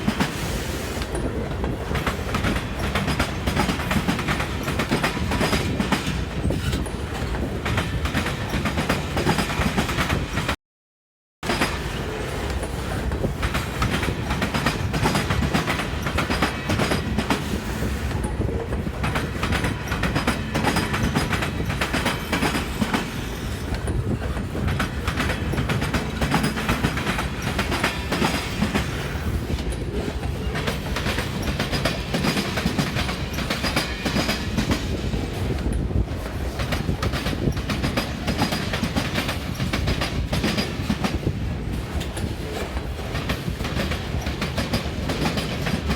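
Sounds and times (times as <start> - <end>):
freight train wheels clacking: 0.0 - 10.6, 11.4 - 45.9
low train rumble: 0.0 - 10.6, 11.4 - 45.9.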